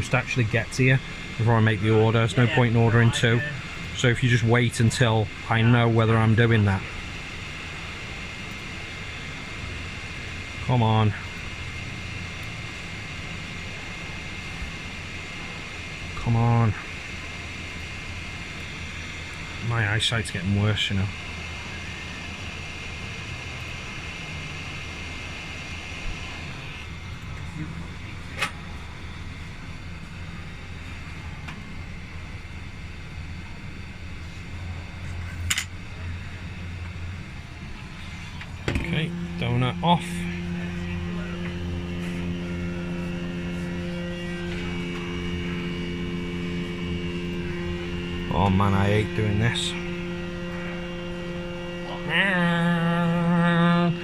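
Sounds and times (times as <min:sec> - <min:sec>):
low hum: 0:00.0 - 0:54.0
blower hiss: 0:06.7 - 0:54.0.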